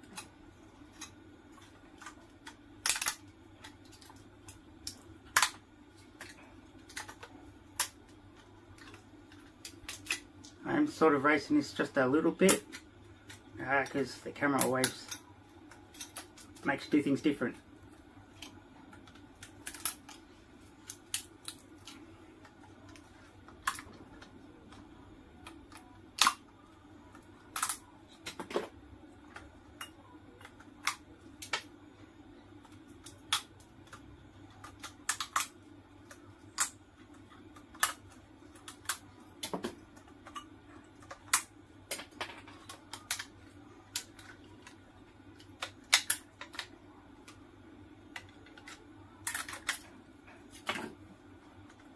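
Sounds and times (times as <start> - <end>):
faint low hum: 0.0 - 51.9.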